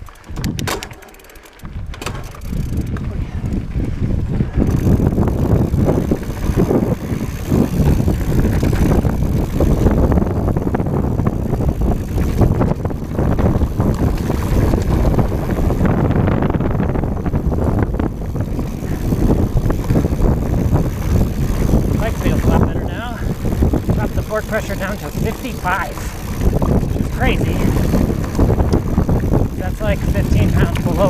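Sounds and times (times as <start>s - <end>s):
wind buffeting microphone: 0.0s - 0.9s, 1.6s - 31.0s
bike rattling and knocking: 0.0s - 31.0s
bike tyres rumbling on dirt: 0.0s - 31.0s.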